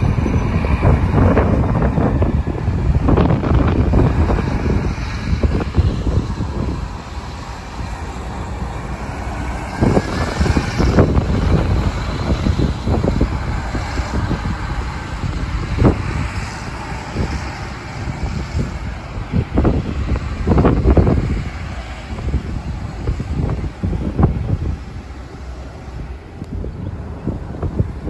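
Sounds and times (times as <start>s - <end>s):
bus driving past: 0.0s - 28.0s
wind buffeting microphone: 0.0s - 28.0s.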